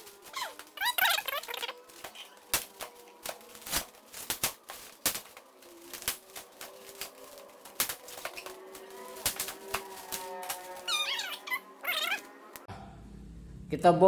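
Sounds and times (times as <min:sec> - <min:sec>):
hands handling foam: 0:00.0 - 0:12.3
scissors cutting styrofoam: 0:00.0 - 0:12.4.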